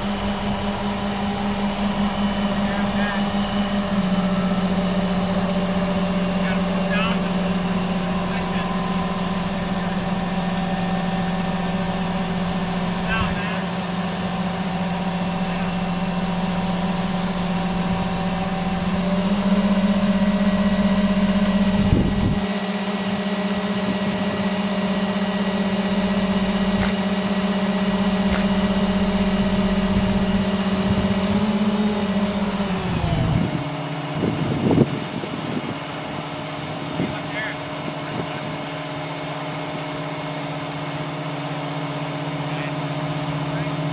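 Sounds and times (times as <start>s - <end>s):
crane diesel engine running: 0.0s - 43.9s.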